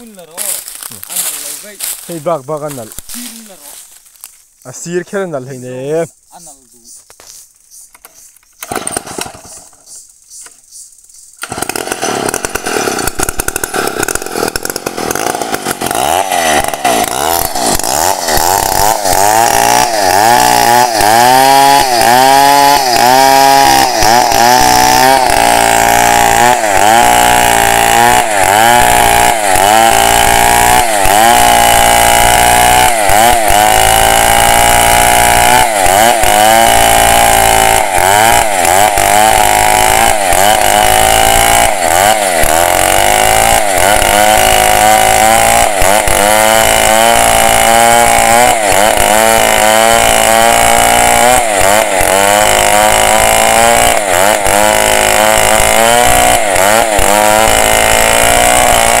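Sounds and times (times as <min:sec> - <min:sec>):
chainsaw cutting through log: 0:00.0 - 0:06.0, 0:08.6 - 0:09.9, 0:11.4 - 0:59.0.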